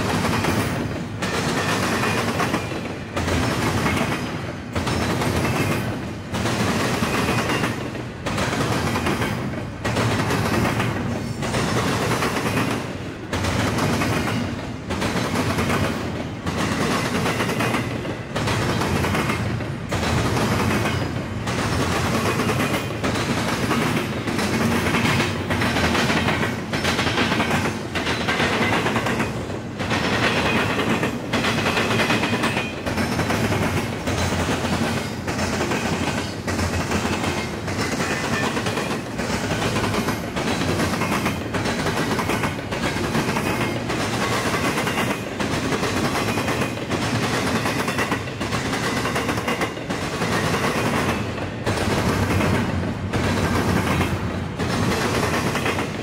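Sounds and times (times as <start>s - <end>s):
freight train wheels clacking: 0.0s - 56.0s.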